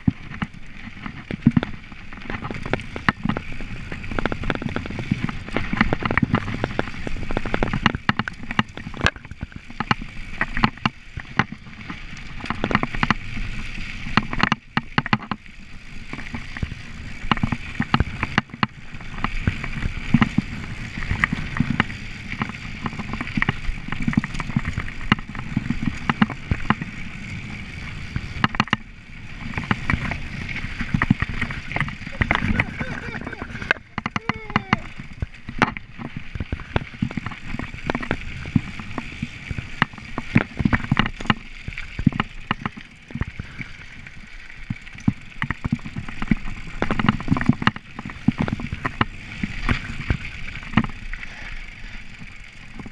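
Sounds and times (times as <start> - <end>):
bike rattling over bumps: 0.0 - 52.9
bike tyres rumbling on dirt: 0.0 - 52.9.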